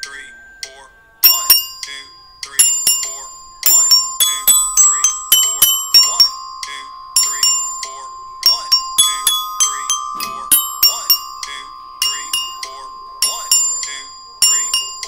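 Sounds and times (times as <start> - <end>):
glockenspiel notes: 0.0 - 15.0.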